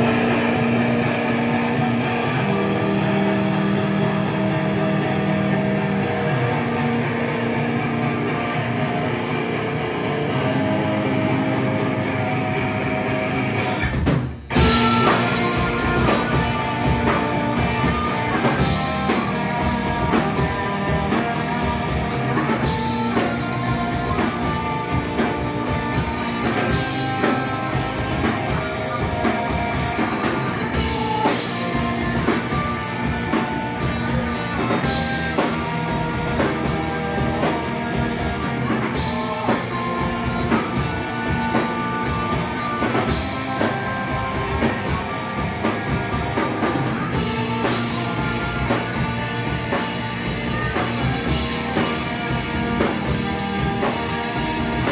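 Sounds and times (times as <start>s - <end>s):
rock band playing live: 0.0s - 54.9s.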